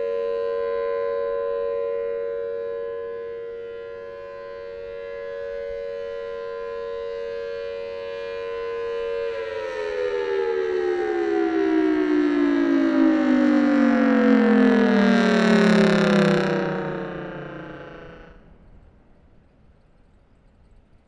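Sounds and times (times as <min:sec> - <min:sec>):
rotating siren two-note chord: 0:00.0 - 0:19.2.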